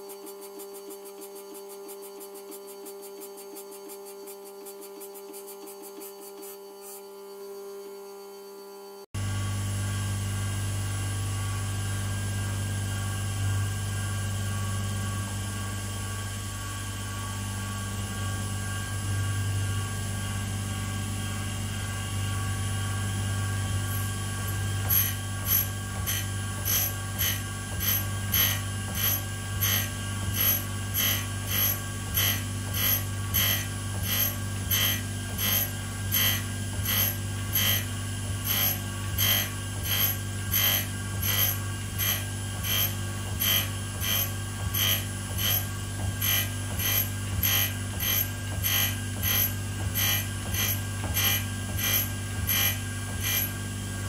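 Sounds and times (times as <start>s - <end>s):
grinder motor humming: 0.0s - 54.0s.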